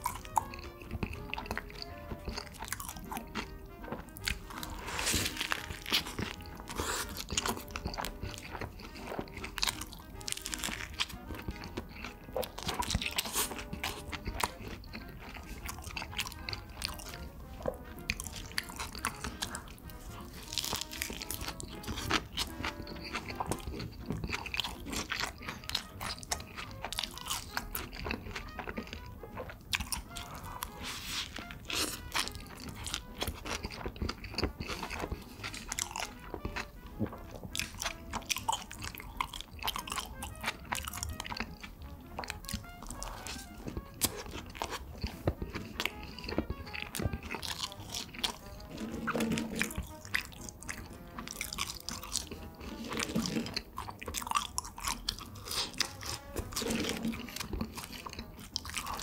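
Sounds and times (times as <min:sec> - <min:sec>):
chewing crunches: 0:00.0 - 0:59.0.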